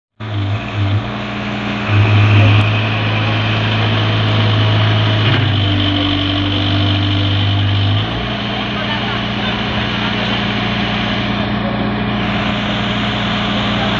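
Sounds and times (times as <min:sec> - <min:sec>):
diesel engine humming: 0:00.2 - 0:13.9.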